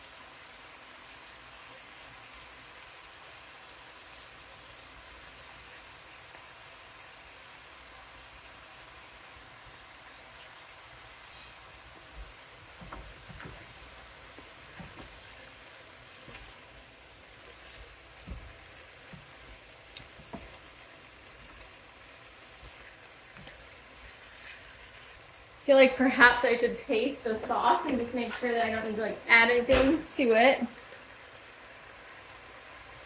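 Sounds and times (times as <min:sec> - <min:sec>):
chicken sizzling in a pan: 0:00.0 - 0:33.0.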